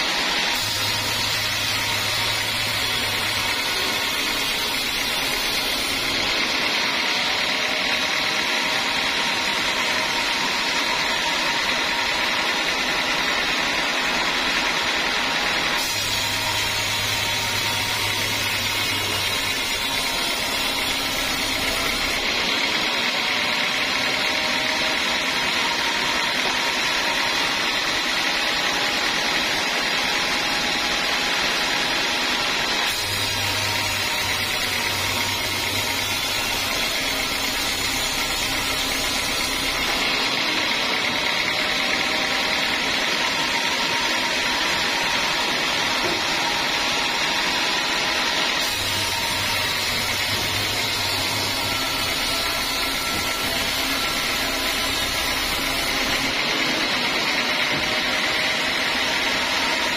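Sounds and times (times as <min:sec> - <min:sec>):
bandsaw blade sawing log: 0:00.0 - 0:59.9.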